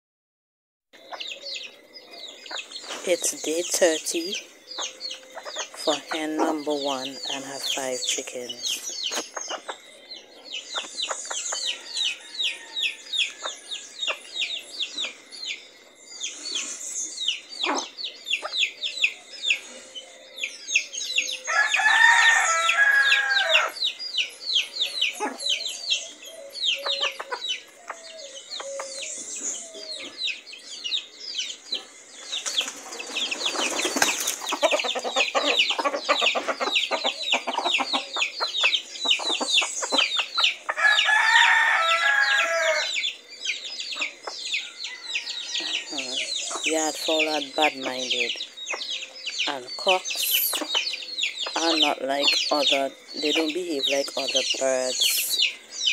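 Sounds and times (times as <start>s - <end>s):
chicks peeping: 1.0s - 55.9s.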